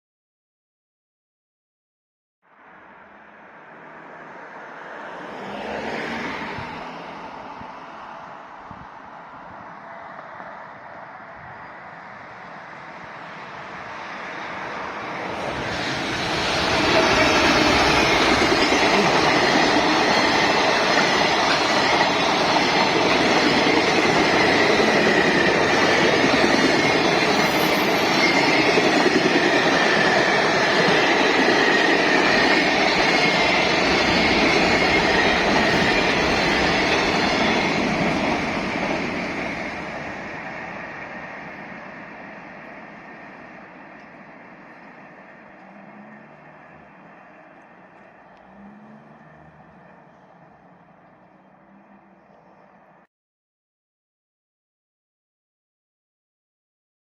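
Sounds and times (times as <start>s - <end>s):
freight train passing: 2.6s - 53.1s.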